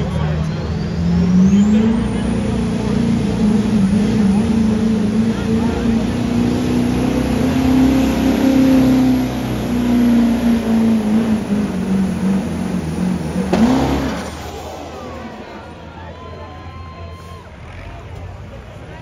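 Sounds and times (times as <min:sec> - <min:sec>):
diesel truck engine under heavy load: 0:00.0 - 0:19.0.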